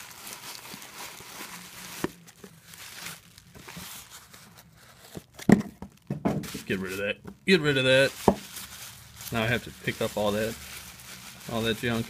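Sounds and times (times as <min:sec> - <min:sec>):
paper and plastic wrap crinkling: 0:00.0 - 0:12.0.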